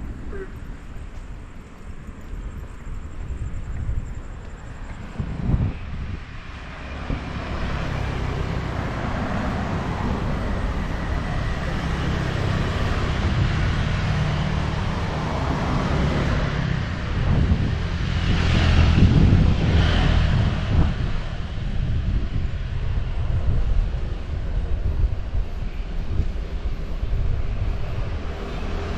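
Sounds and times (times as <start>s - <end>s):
passing motor vehicles rumble: 0.0s - 28.9s.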